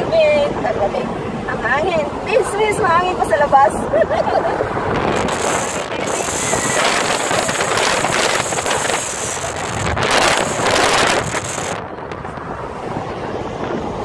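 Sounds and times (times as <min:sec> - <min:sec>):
car road noise: 0:00.0 - 0:14.0
wind buffeting microphone: 0:00.0 - 0:14.0.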